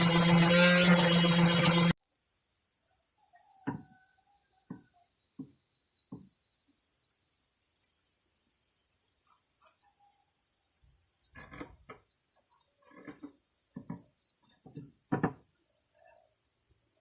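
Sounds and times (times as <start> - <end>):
crickets chirping: 2.0 - 17.0.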